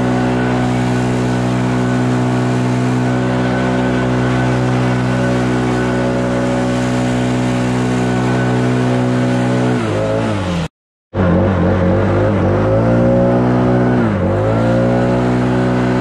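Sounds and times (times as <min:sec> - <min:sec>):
leaf blower engine running: 0:00.0 - 0:10.7, 0:12.0 - 0:16.0.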